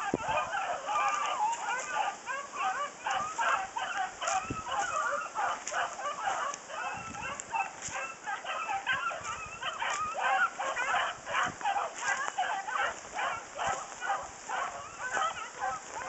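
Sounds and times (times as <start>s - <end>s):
hounds baying: 0.0s - 16.0s.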